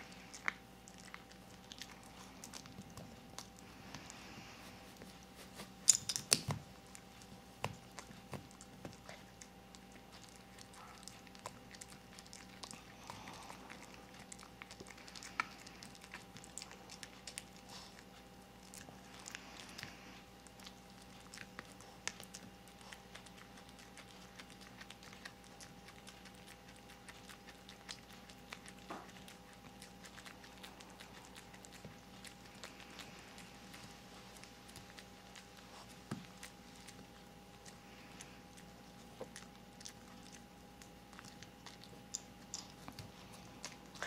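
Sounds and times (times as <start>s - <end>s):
dog chewing rawhide: 0.0s - 44.0s.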